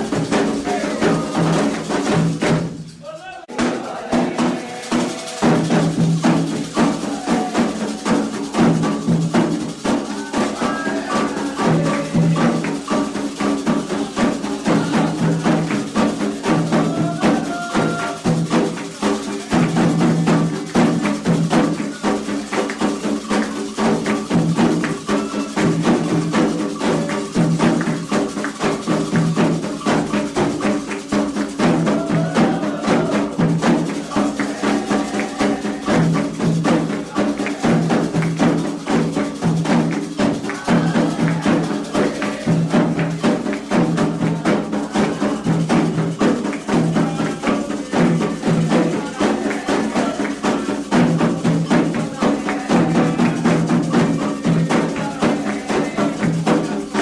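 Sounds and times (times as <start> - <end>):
hand drums fast rhythm: 0.0 - 57.0
struck percussion pattern: 0.0 - 57.0.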